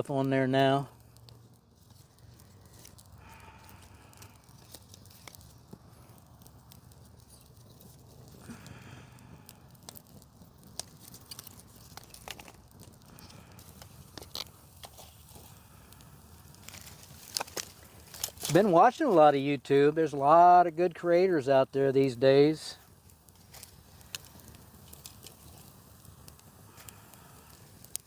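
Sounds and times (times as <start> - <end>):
campfire crackling: 0.0 - 28.0
sharp snaps of fire: 0.0 - 28.0.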